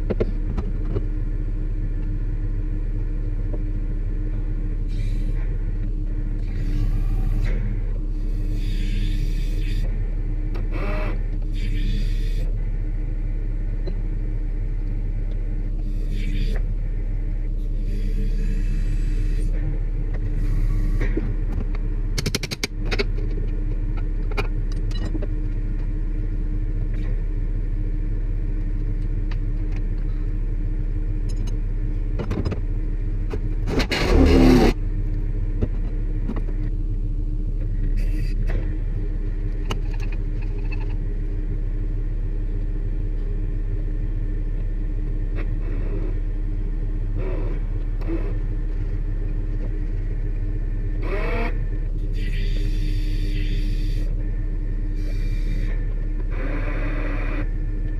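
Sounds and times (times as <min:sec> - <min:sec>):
truck engine idling: 0:00.0 - 0:57.9.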